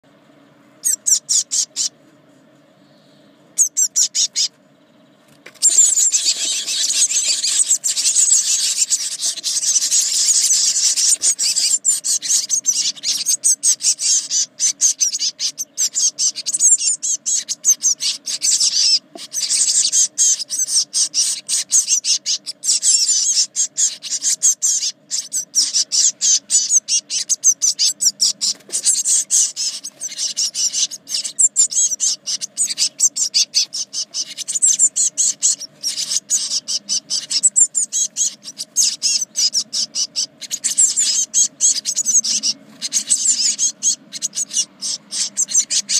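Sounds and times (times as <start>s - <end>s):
nestlings begging calls: 0.3s - 45.9s.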